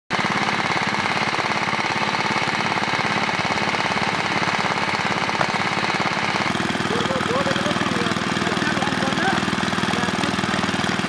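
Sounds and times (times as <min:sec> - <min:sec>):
engine knocking steadily: 0:00.1 - 0:11.0.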